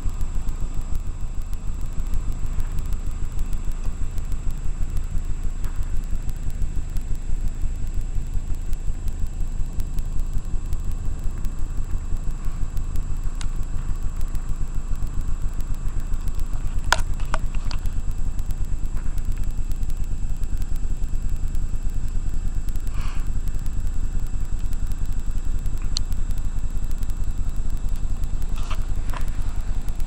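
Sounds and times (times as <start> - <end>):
light clicks: 0.0 - 30.0
motorcycle engine rumbling: 0.0 - 30.0.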